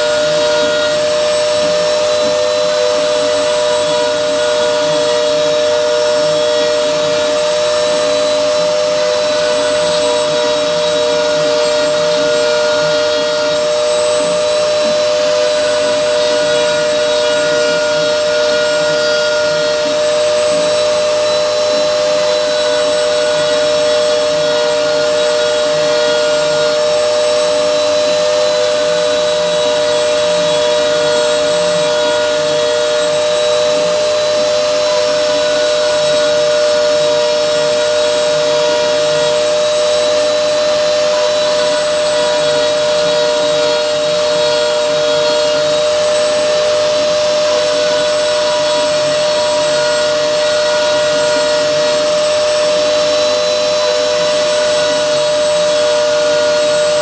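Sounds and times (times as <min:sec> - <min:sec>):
router spindle whine: 0:00.0 - 0:57.0.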